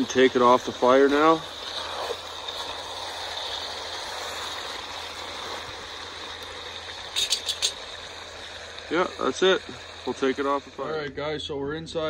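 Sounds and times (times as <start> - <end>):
stew simmering in a pot: 0.0 - 11.3
fire coals: 0.0 - 12.0.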